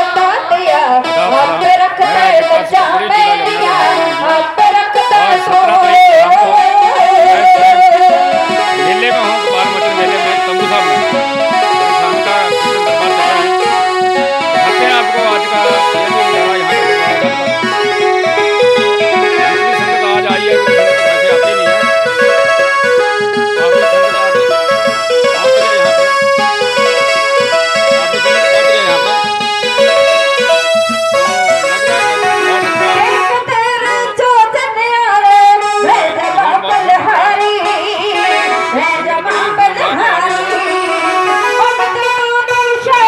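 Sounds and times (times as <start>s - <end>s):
keyboard playing devotional melody: 0.0s - 43.0s
wavering voice: 1.0s - 34.7s, 35.6s - 43.0s.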